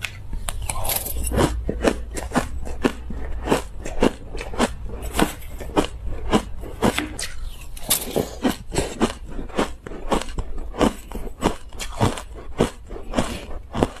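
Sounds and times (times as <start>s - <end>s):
chewing crushed ice crunches: 0.5s - 14.0s.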